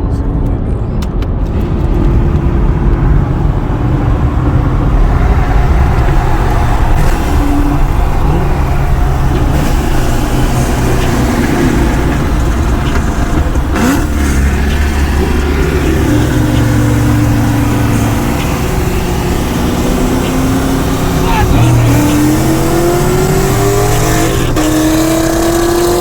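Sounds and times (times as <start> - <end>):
road and wind noise: 0.0 - 26.0
car engine pulling hard: 1.3 - 26.0.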